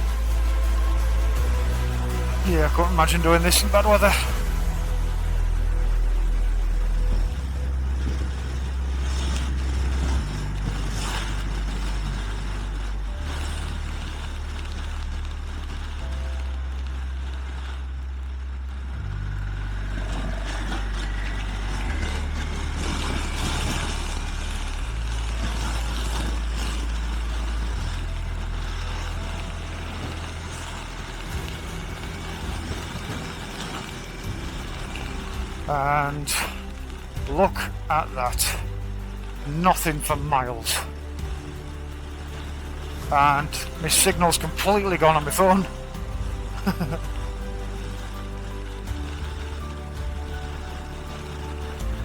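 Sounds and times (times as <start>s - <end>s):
background music with bass line: 0.0s - 52.0s.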